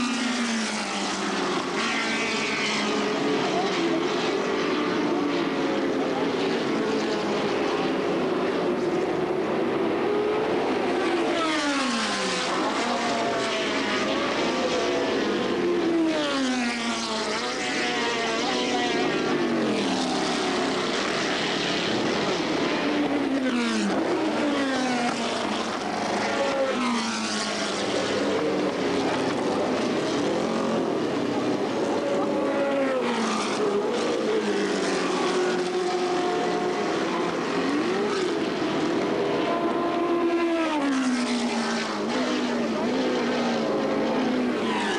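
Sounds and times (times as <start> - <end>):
racing cars passing at speed: 0.0 - 44.9.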